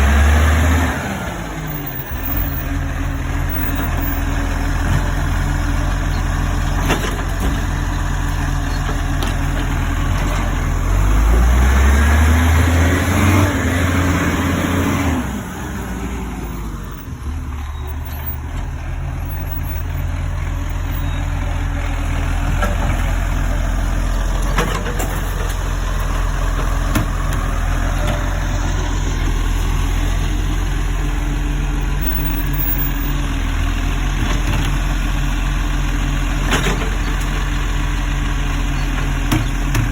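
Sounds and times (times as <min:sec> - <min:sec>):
garbage truck diesel engine idling: 0:01.0 - 0:11.3, 0:15.2 - 0:39.9.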